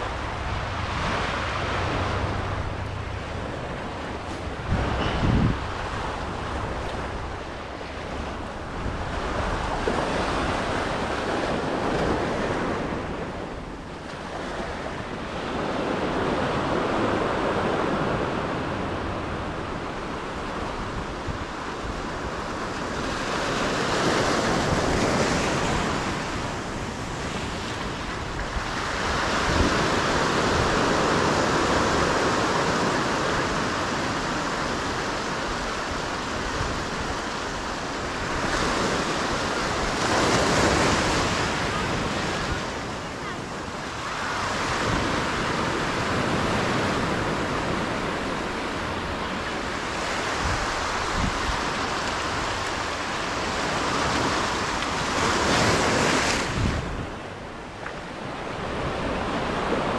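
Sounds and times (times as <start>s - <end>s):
surf washing up rocky shore: 0.0s - 59.9s.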